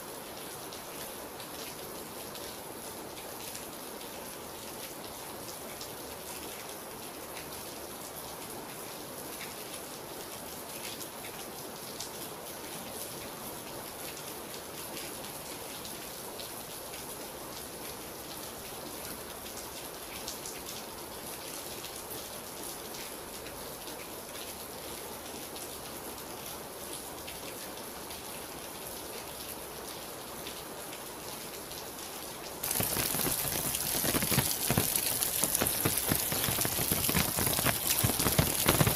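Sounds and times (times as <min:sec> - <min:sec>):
steady rain hiss: 0:00.0 - 0:38.9
raindrops ticking on a surface: 0:00.2 - 0:38.9.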